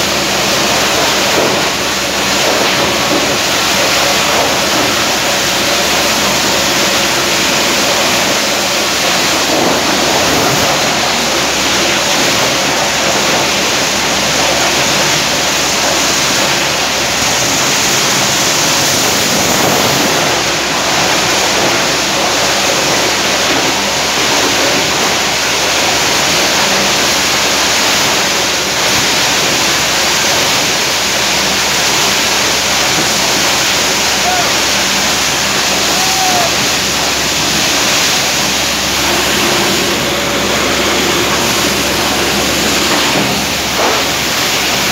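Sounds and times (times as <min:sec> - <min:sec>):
plastic crushing machine running: 0:00.0 - 0:44.9.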